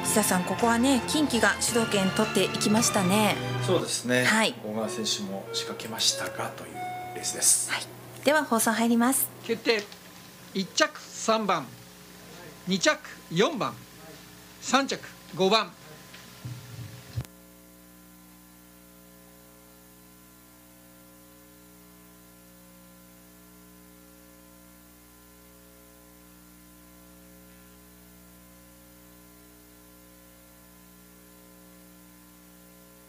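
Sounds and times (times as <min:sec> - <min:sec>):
electrical mains hum and hiss: 0:00.0 - 0:33.0.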